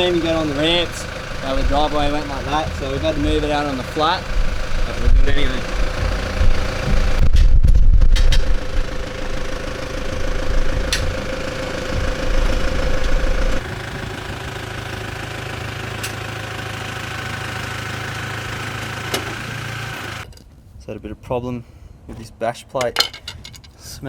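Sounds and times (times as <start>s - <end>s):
diesel engine running: 0.0s - 20.2s.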